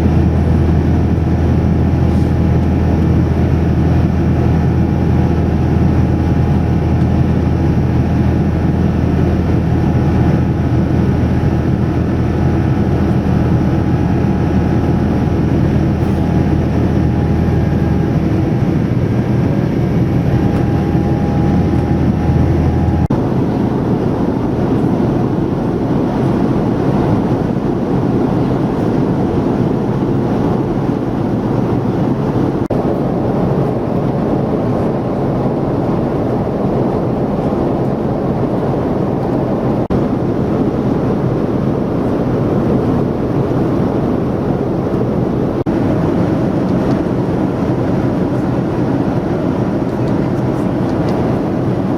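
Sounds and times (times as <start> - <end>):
jet airliner cabin noise: 0.0 - 51.9.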